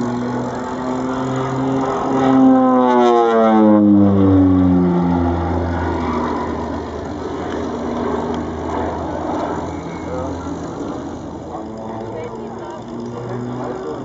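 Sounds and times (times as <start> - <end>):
propeller aircraft droning past: 0.0 - 14.0.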